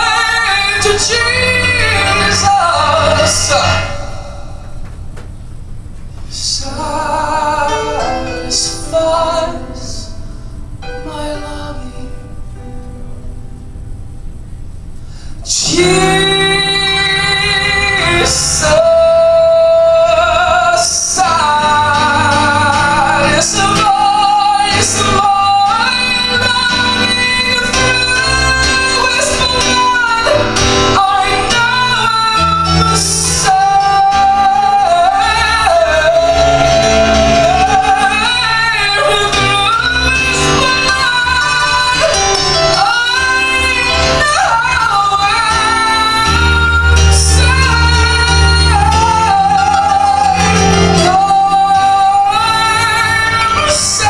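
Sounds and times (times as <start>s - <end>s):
man singing gospel melody: 0.0s - 5.1s, 6.3s - 12.5s, 15.4s - 54.0s
piano accompaniment: 0.0s - 54.0s.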